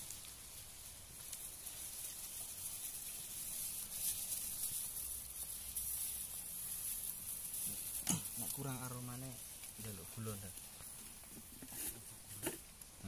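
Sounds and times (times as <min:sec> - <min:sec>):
hiss of gas stove cooking: 0:00.0 - 0:13.0.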